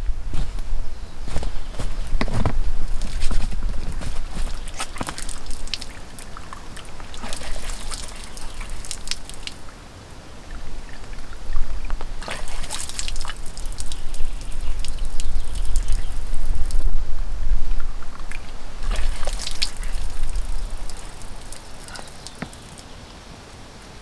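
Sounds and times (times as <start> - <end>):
water splashing: 2.9 - 16.9, 17.7 - 23.0
water trickling and dripping: 2.9 - 17.0, 17.6 - 23.0.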